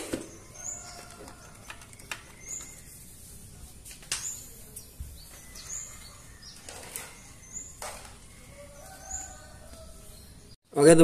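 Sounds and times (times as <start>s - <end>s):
small bird chirping: 0.2s - 10.6s.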